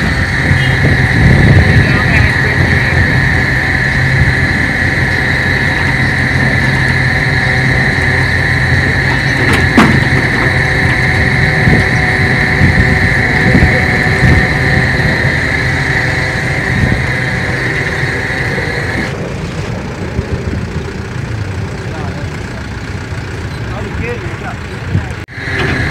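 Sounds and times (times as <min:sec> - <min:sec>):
high-pitched whine: 0:00.0 - 0:25.9
truck engine running: 0:00.0 - 0:25.9.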